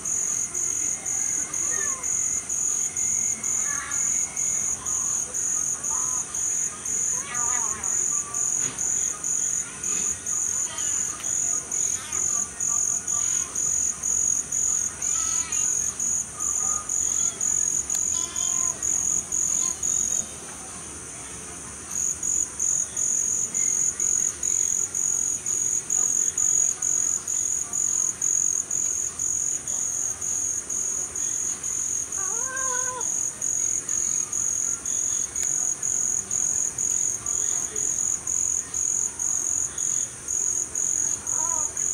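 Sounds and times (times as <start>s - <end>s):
crickets chirping: 0.0s - 41.9s
high insect trill: 0.0s - 41.9s.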